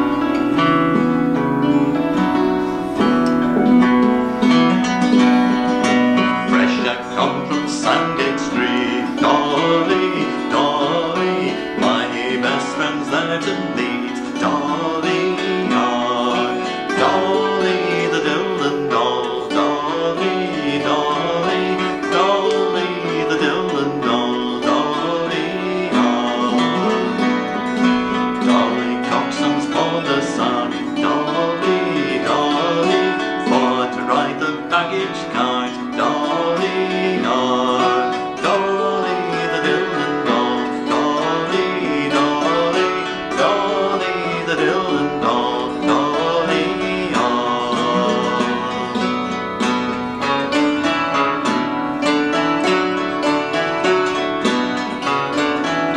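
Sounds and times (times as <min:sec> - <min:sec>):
acoustic guitar: 0:00.0 - 0:55.9
hammered dulcimer: 0:00.0 - 0:55.9
man singing folk song: 0:00.0 - 0:55.9.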